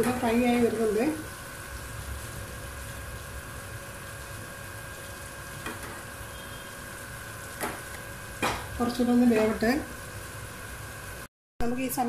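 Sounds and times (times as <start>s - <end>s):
chicken sizzling in a frying pan: 0.0s - 11.3s.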